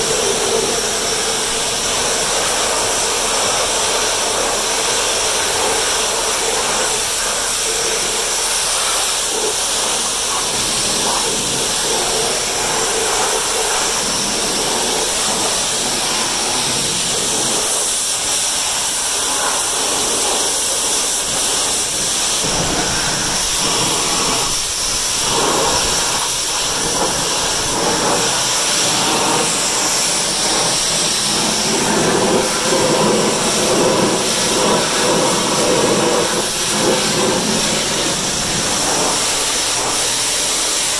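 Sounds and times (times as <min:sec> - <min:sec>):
pressure washer spray hissing: 0:00.0 - 0:40.9.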